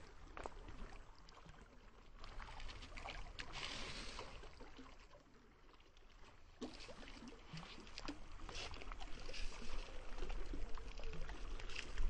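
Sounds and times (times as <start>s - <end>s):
water splashing and dripping: 0.0s - 12.0s.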